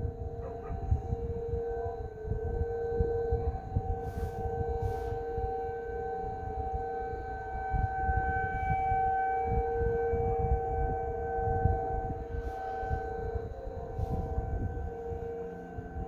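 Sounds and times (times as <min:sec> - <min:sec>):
warning siren chord: 0:00.0 - 0:16.0.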